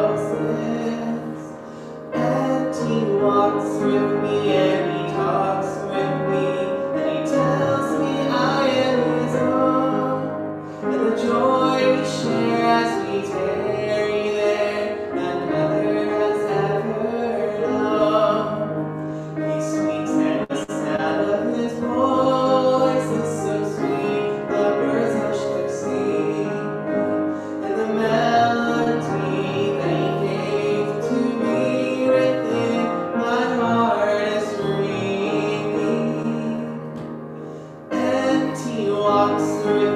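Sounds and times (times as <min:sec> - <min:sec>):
person singing with vibrato: 0:00.0 - 0:39.9
piano playing: 0:00.0 - 0:39.9.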